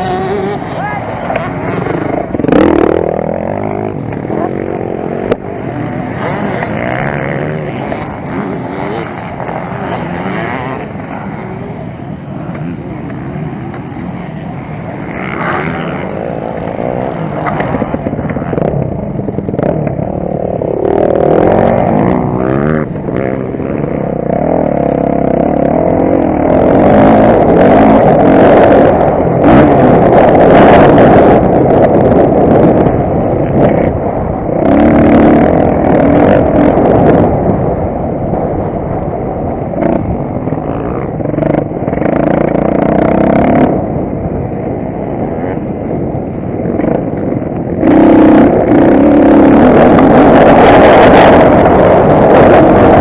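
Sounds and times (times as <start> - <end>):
motocross bike engine revving: 0.0 - 37.4, 39.8 - 53.0.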